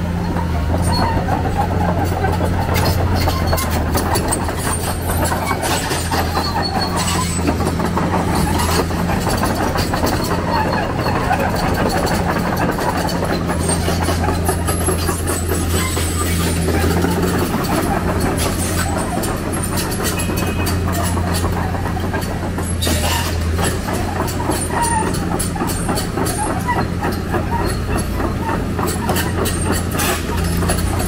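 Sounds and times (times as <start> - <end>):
diesel engine hum: 0.0 - 31.0
metallic clatter and rattling: 0.7 - 31.0.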